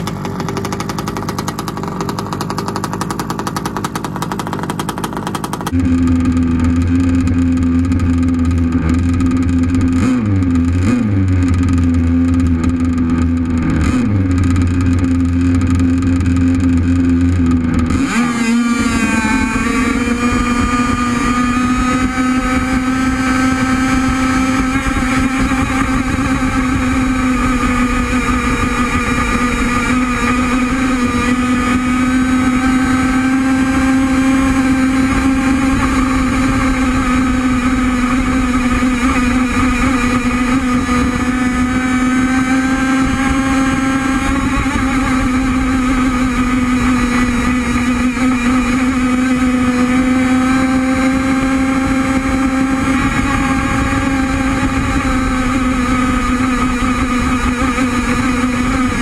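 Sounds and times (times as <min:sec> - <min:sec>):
two-stroke boat engine high revs: 0:00.0 - 0:59.0.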